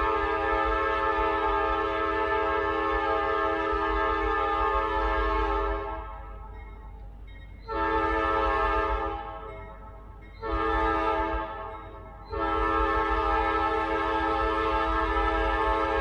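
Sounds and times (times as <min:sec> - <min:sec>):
locomotive air horn blasts: 0:00.0 - 0:06.3, 0:07.7 - 0:09.5, 0:10.4 - 0:16.0.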